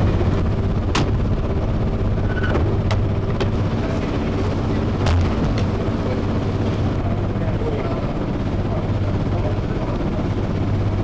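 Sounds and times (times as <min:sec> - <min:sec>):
blower humming with air rush: 0:00.0 - 0:11.0.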